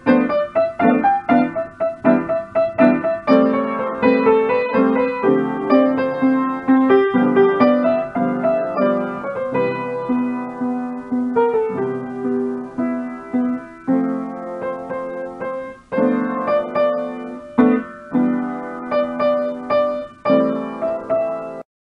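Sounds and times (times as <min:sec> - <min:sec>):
piano piece: 0:00.0 - 0:21.7.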